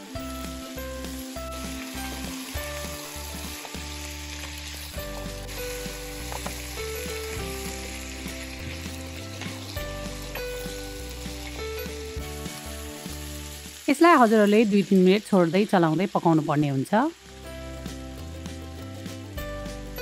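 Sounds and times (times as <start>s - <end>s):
light background music: 0.0s - 20.0s
meat sizzling in oil: 0.0s - 20.0s.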